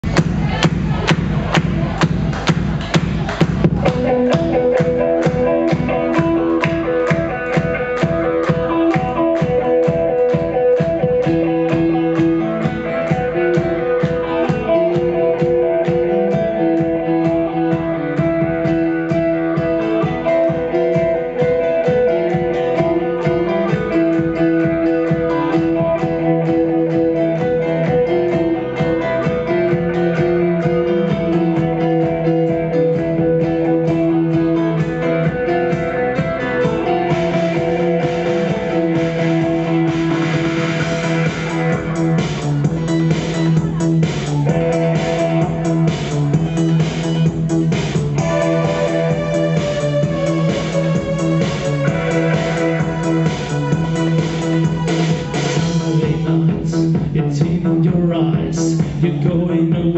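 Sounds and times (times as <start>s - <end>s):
live band playing instrumental: 0.2s - 56.7s.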